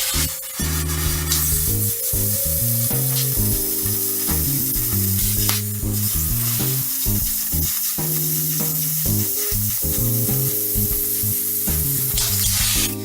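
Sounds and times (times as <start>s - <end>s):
background music: 0.0s - 13.0s
welding arc crackling: 0.0s - 13.0s.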